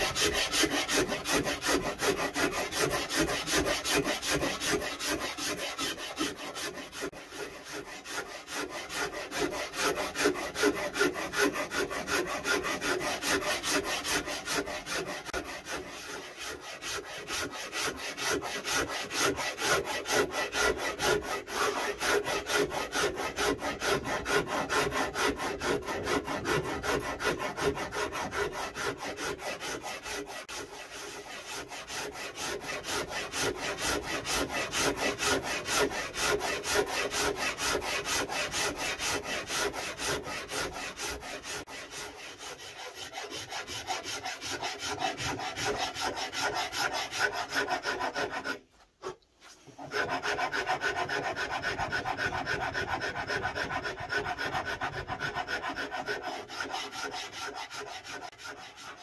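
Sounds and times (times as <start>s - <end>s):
rasp scraping wood: 0.0s - 59.0s.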